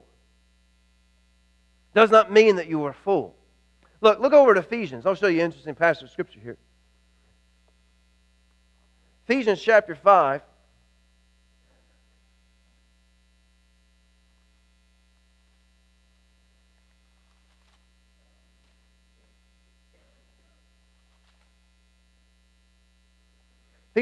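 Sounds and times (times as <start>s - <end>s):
low electrical mains hum: 0.0s - 24.0s.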